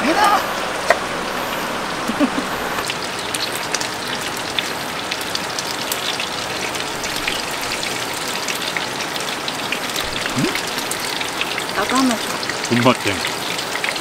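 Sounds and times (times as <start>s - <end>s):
heavy rain on a tarp: 0.0s - 14.0s.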